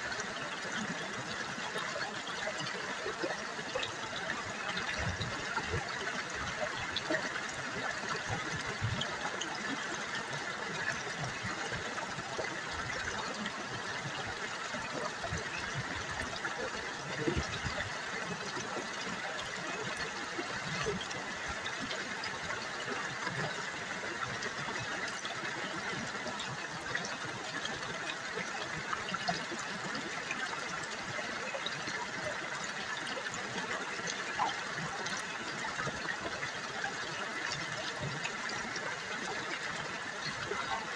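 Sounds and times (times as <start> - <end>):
river water babbling over rocks: 0.0 - 40.9.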